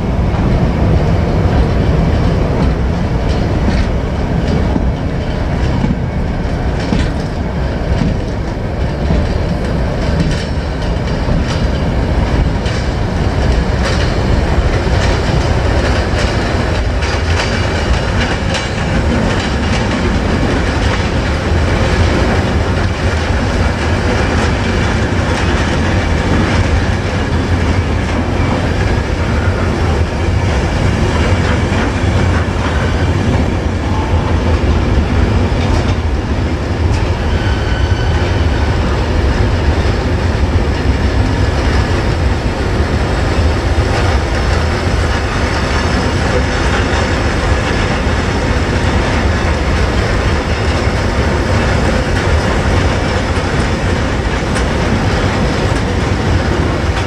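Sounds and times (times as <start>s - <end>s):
freight train rumbling: 0.0s - 57.0s
wheels clacking over rail joints: 0.1s - 57.0s.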